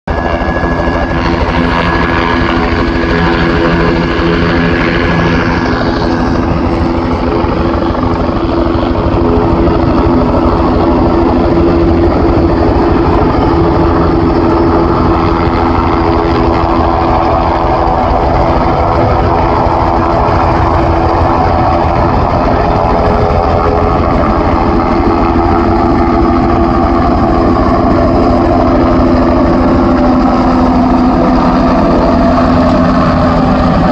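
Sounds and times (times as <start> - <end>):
helicopter rotor and engine drone: 0.0 - 33.9
high turbine whine: 0.1 - 33.9.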